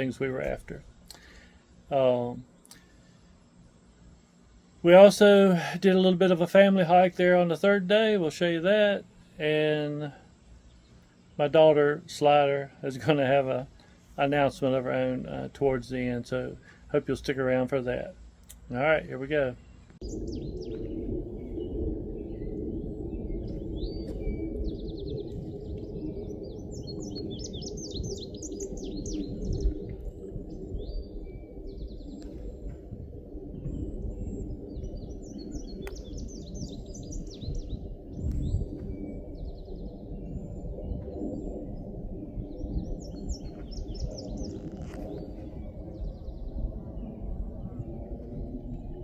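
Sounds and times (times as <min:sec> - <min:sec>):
songbirds trilling: 0:00.0 - 0:49.0
steady low rumble: 0:00.0 - 0:49.0.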